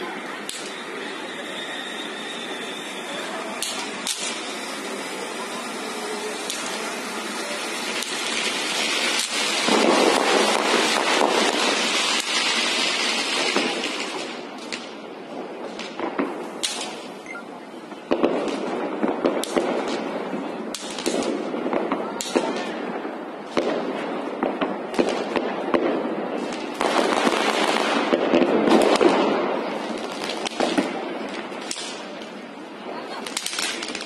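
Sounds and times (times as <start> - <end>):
firecrackers and fireworks banging: 0.0 - 34.0.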